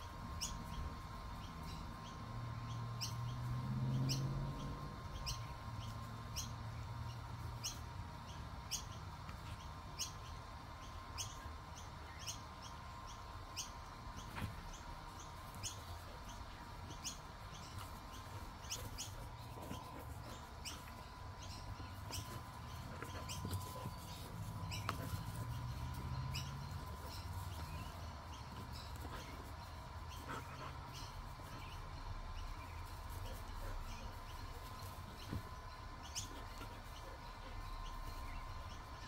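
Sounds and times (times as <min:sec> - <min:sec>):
faint steady hum: 0:00.0 - 0:39.0
bird chirping: 0:00.3 - 0:39.0.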